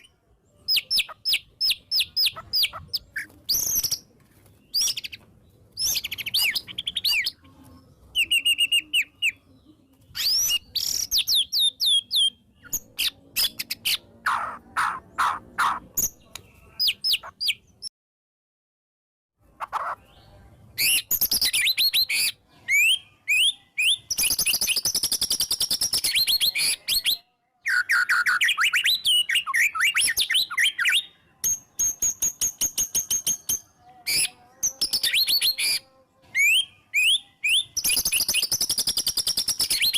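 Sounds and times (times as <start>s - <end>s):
bird singing varied whistles and trills: 0.0s - 7.4s, 8.0s - 17.9s, 20.8s - 39.9s.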